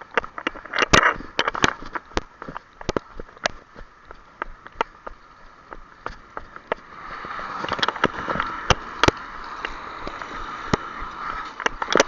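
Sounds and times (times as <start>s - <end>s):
crunching footsteps on rough path: 0.0s - 12.0s
steady rushing noise: 0.0s - 12.0s.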